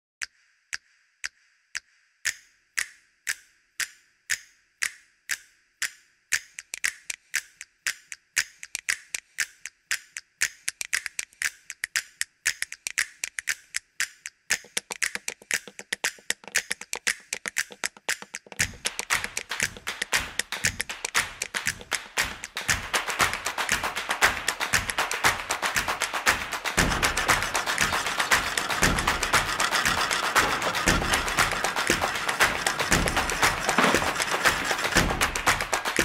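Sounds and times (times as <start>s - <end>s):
ticking clock-like percussion: 0.2s - 36.0s.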